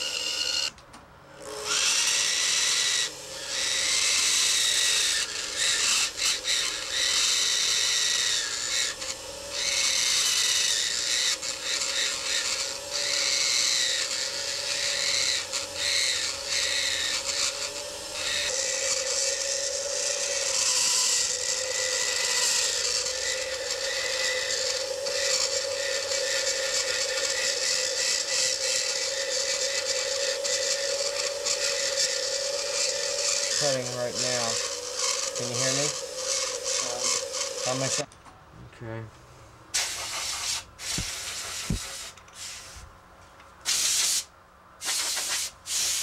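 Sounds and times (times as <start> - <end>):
rotary tool grinding acrylic: 0.0 - 0.8, 1.4 - 38.1, 39.8 - 42.6.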